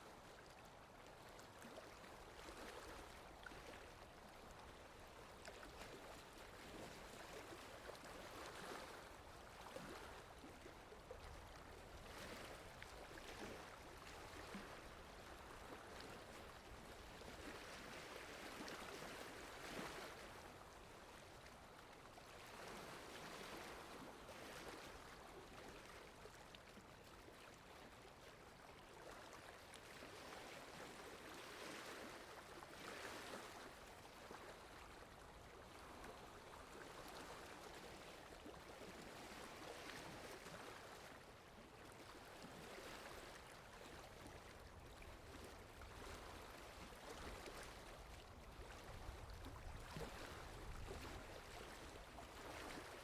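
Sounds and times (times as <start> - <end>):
water lapping: 0.0 - 53.0.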